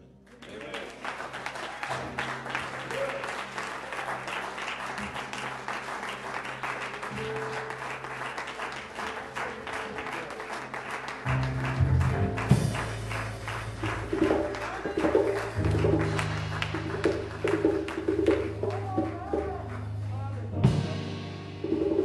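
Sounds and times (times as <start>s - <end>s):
congregation clapping: 0.0s - 20.8s.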